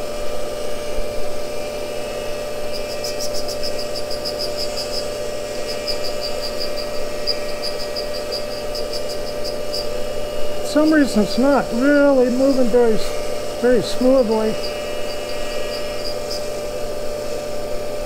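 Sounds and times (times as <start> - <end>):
grinder humming: 0.0 - 18.0
fast light ticking of grinding wheel: 1.6 - 16.8.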